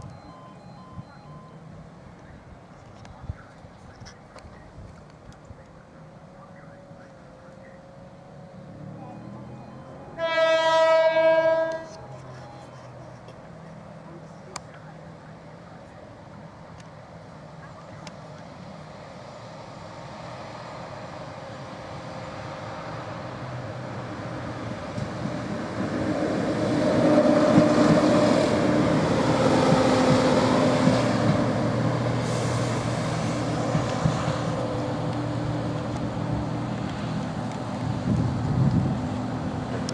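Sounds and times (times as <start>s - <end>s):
diesel train passing: 0.0s - 39.9s.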